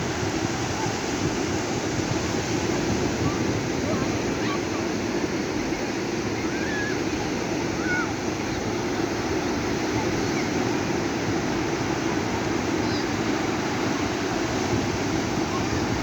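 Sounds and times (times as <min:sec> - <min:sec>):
waves washing onto beach: 0:00.0 - 0:16.0.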